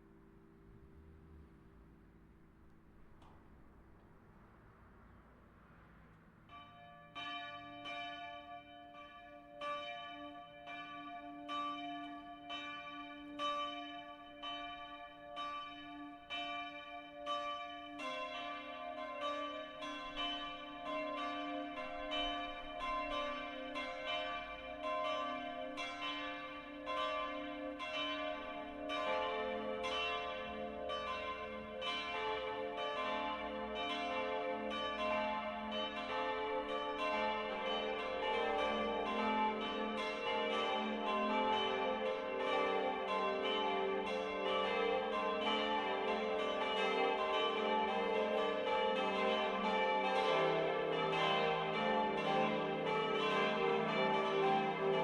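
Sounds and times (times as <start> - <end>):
church bells pealing: 6.5 - 55.0.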